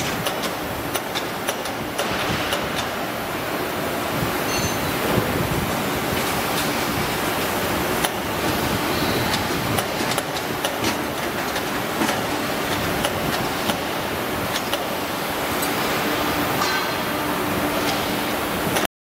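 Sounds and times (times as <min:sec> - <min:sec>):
workshop background noise: 0:00.0 - 0:18.9.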